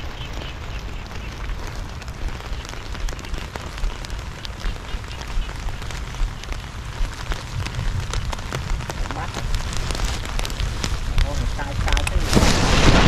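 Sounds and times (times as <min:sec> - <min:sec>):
heavy rain hiss: 0:00.0 - 0:13.0
raindrops ticking close by: 0:00.0 - 0:13.0.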